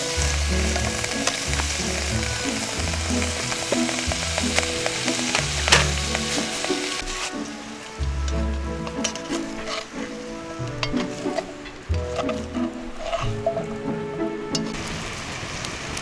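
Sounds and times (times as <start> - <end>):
utensil clicking while stirring: 0.0 - 7.4, 8.2 - 13.9
background music with bass line: 0.0 - 14.7
food frying and sizzling: 0.0 - 16.0.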